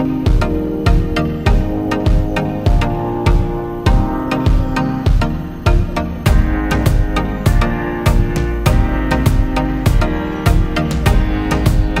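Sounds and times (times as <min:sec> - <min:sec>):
music with steady beat: 0:00.0 - 0:12.0
sustained instrumental tones: 0:00.0 - 0:12.0.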